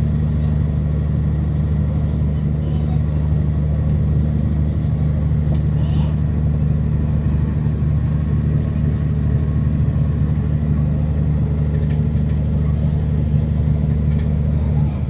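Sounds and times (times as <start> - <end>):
train diesel engine droning: 0.0 - 15.0.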